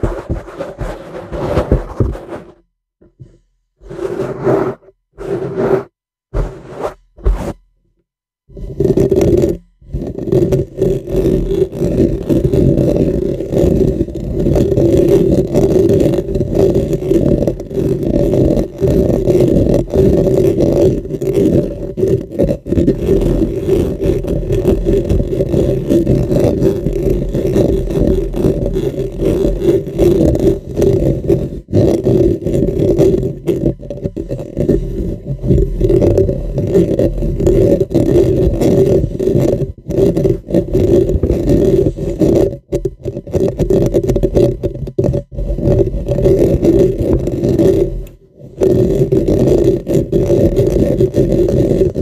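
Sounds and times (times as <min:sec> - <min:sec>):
fingernails scratching microphone foam: 0:00.0 - 0:07.7, 0:08.5 - 0:52.0.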